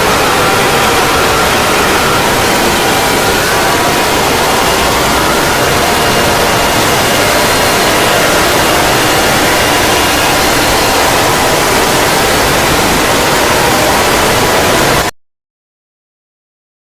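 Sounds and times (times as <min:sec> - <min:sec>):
faint steady tones: 0:00.0 - 0:15.1
loud hissing static: 0:00.0 - 0:15.1.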